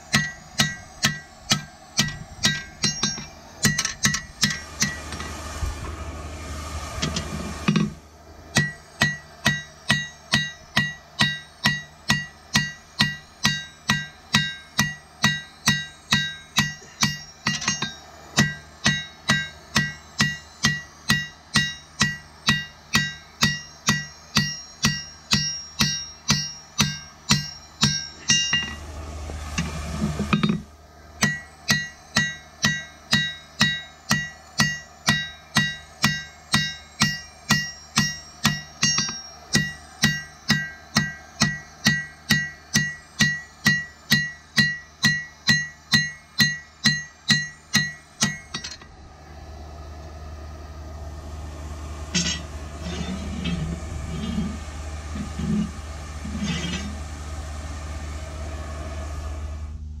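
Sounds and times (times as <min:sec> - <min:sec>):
hammer ringing on an anvil: 0:00.0 - 0:05.3, 0:07.1 - 0:28.8, 0:30.3 - 0:48.9, 0:52.1 - 0:54.6.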